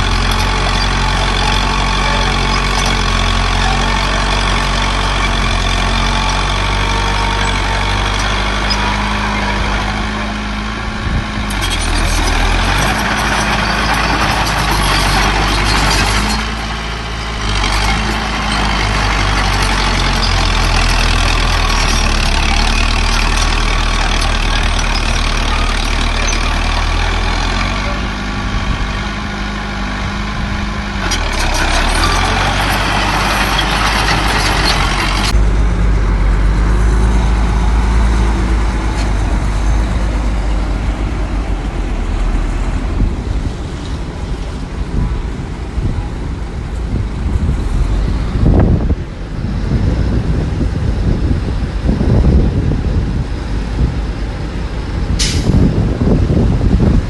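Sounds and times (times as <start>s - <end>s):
diesel engines of machinery running: 0.0s - 57.0s.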